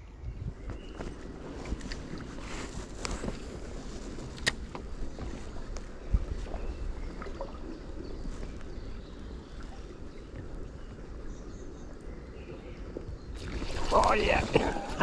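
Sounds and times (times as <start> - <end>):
faint river water: 0.0 - 15.0
wind rumbling on microphone: 0.0 - 15.0.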